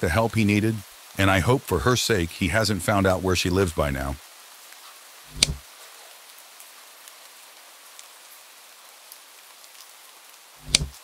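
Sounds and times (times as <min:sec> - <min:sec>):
steady rain hiss: 0:00.0 - 0:11.0
faint raindrop ticks: 0:00.3 - 0:11.0.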